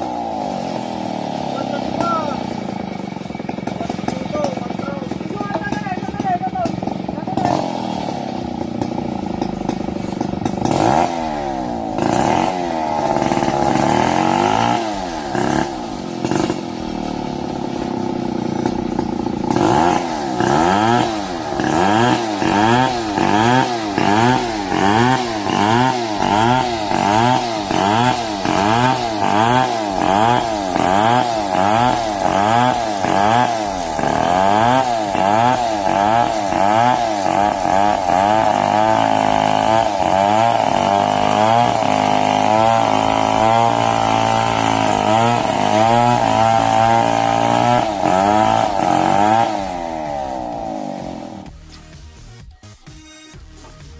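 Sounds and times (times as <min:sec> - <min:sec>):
chainsaw cutting wooden beam: 0:00.0 - 0:52.0.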